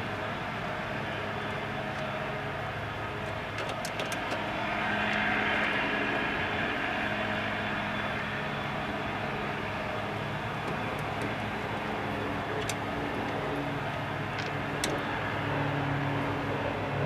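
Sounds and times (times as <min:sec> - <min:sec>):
vehicle drone: 0:00.0 - 0:17.0.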